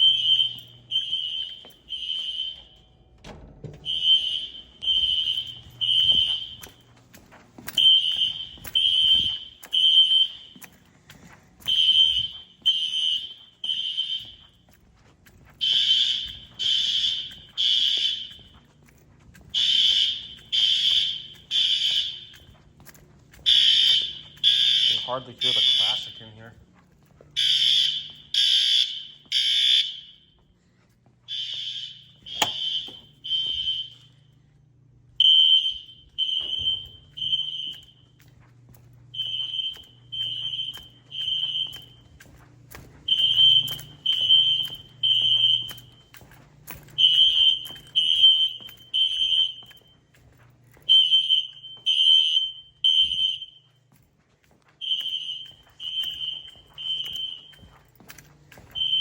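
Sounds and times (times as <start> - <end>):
fire alarm horn beeps: 0.0 - 30.6, 31.3 - 59.0.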